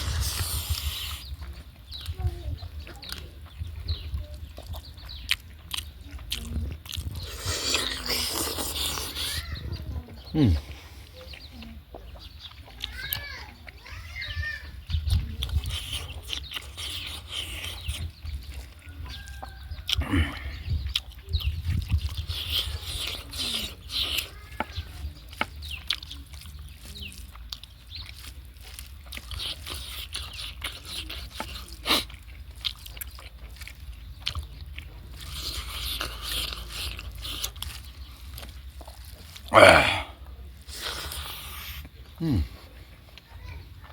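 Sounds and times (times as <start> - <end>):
person chewing food: 0.0 - 14.0, 14.7 - 43.9.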